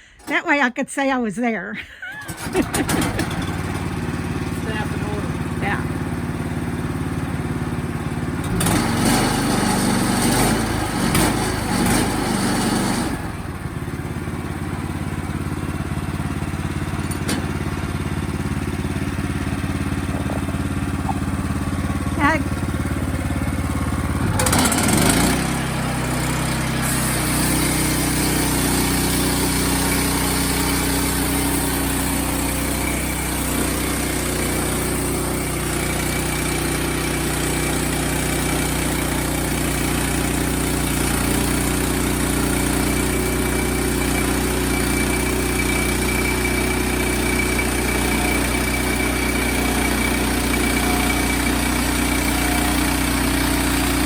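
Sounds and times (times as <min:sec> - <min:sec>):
sawmill engine running: 0:02.1 - 0:54.0.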